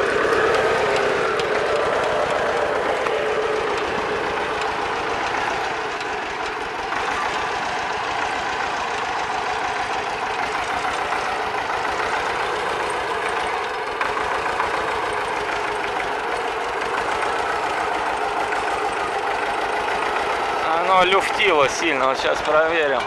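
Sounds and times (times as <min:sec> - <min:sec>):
tractor diesel engine chugging: 0:00.0 - 0:23.0.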